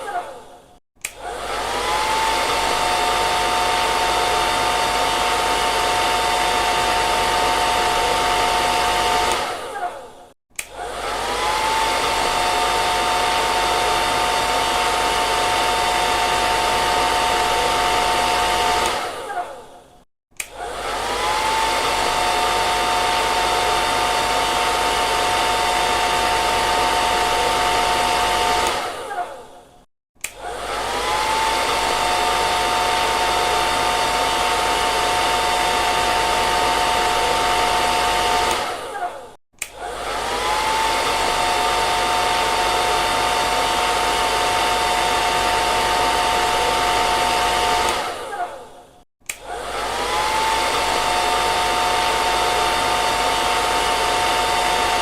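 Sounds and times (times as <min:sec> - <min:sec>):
hair dryer whining: 0:00.0 - 0:19.8, 0:20.4 - 0:55.0.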